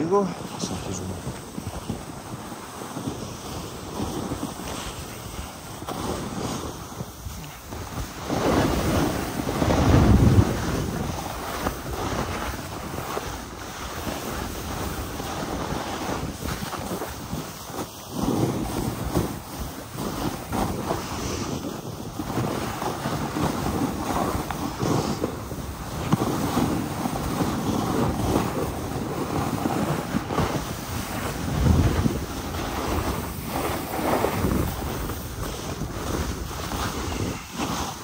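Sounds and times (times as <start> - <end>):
snowboard scraping over snow: 0.0 - 38.0
wind buffeting microphone: 0.0 - 38.0.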